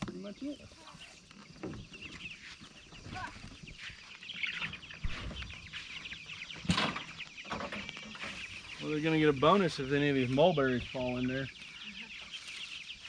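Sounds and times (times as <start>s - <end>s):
chickens chirping: 0.0s - 13.0s.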